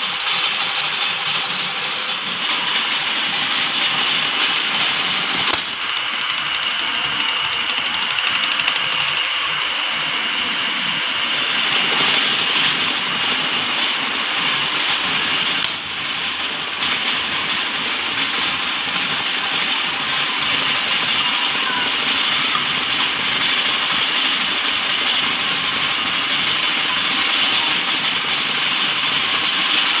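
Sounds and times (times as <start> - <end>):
lathe running: 0.0 - 30.0.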